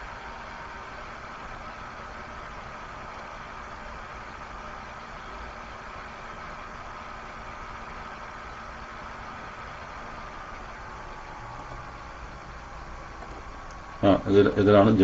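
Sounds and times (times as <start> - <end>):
faint even hum: 0.0 - 15.0.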